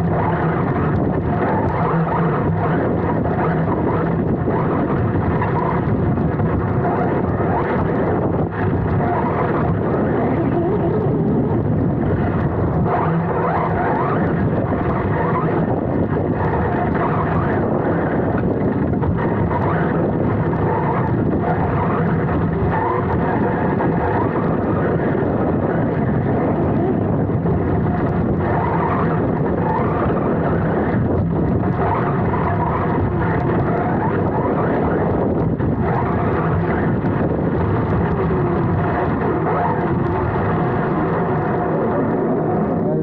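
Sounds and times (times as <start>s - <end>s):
chassis rumble: 0.0s - 43.0s
wind noise on microphone: 0.0s - 43.0s.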